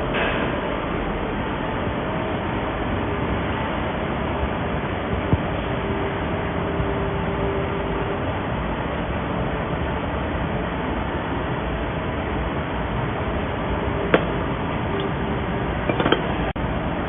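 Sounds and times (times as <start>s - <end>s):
furnace mechanical hum and hiss: 0.0s - 17.0s.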